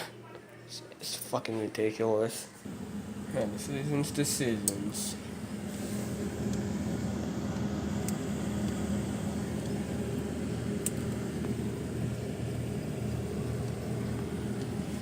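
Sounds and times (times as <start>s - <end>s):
appliance humming: 2.3s - 15.0s.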